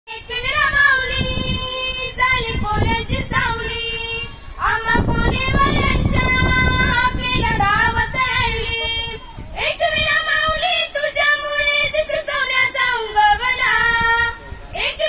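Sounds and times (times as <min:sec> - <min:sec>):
girl singing unaccompanied: 0:00.1 - 0:15.0.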